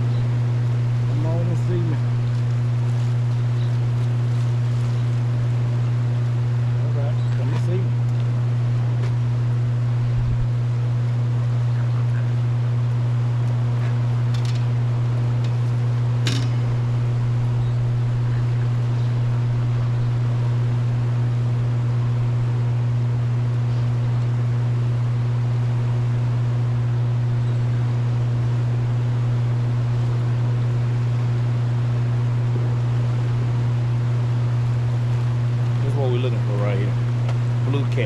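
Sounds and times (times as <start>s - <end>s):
powerhouse low hum: 0.0s - 38.0s.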